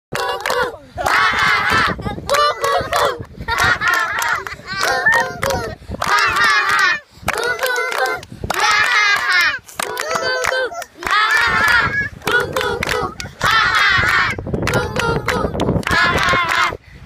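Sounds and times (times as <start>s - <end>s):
hands clapping: 0.1s - 16.7s
children laughing and shouting: 0.1s - 16.8s.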